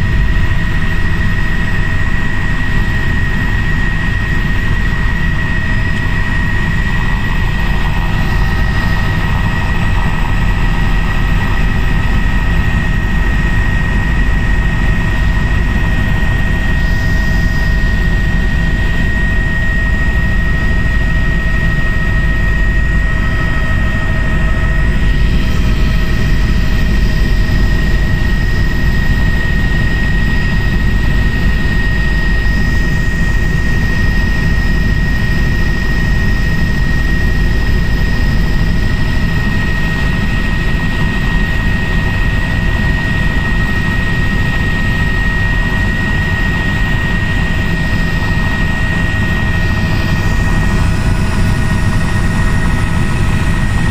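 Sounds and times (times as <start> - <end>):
helicopter engine and rotor drone: 0.0 - 53.9
high turbine whine: 0.0 - 53.9.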